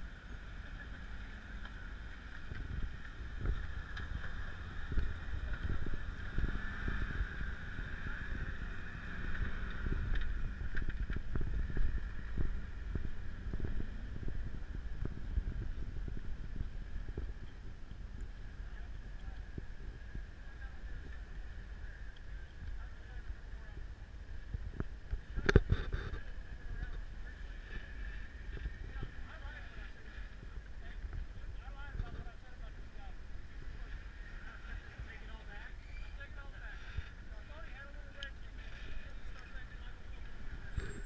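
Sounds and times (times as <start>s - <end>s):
wind buffeting microphone: 2.1s - 35.4s.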